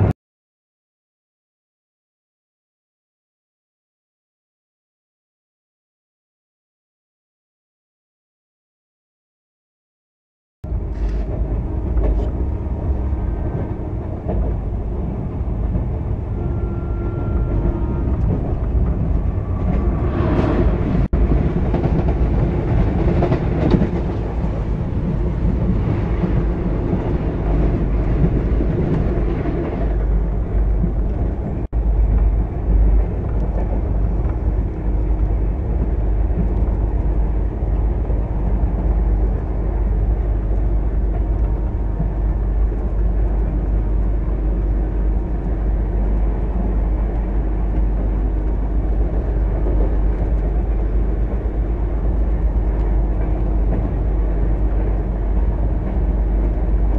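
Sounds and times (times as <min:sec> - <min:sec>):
passing train rushing by: 0:10.7 - 0:56.9
train wheels rumbling on track: 0:10.7 - 0:56.9.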